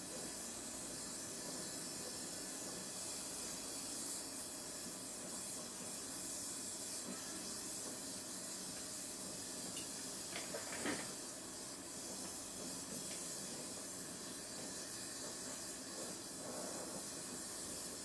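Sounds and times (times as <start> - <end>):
welding torch hissing: 0.0 - 18.0.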